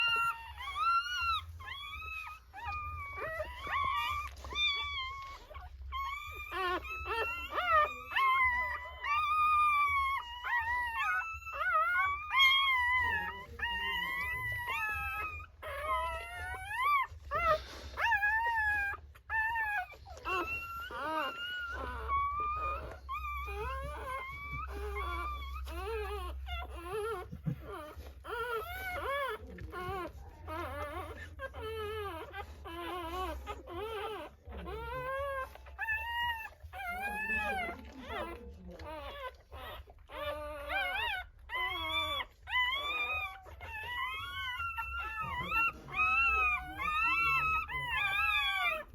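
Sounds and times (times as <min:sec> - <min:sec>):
puppies crying and whimpering: 0:00.0 - 0:48.9.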